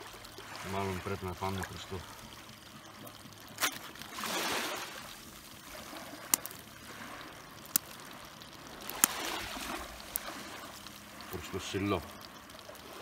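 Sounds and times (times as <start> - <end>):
faint water sound: 0.0 - 13.0.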